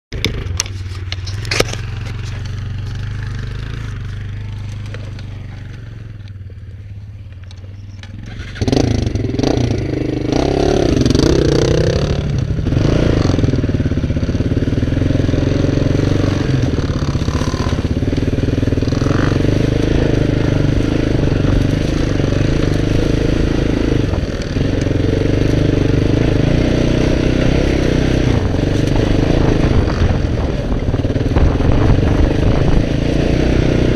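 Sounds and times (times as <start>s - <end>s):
atv engine revving: 0.2s - 33.9s.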